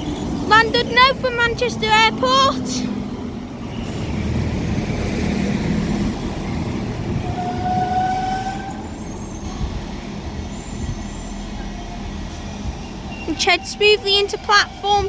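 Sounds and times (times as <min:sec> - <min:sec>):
train engine and wheels rumbling: 0:00.0 - 0:15.0.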